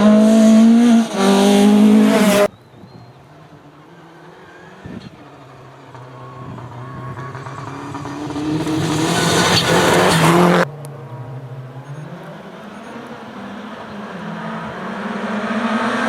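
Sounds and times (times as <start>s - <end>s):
rally car engine: 0.0s - 16.0s.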